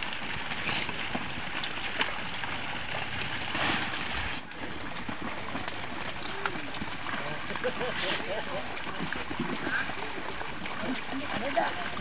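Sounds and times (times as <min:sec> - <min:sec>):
fish thrashing in shallow water: 0:00.0 - 0:12.0.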